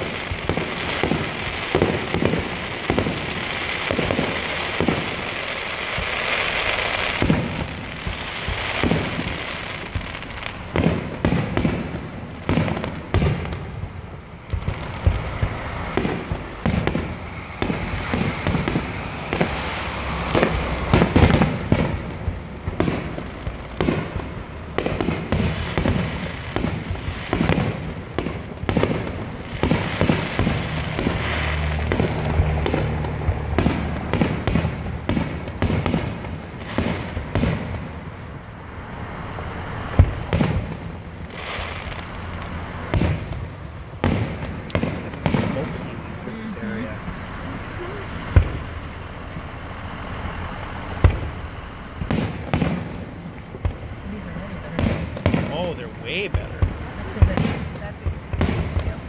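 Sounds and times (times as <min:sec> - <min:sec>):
fireworks bursting: 0:00.0 - 0:59.0
fireworks crackling: 0:00.0 - 0:59.0.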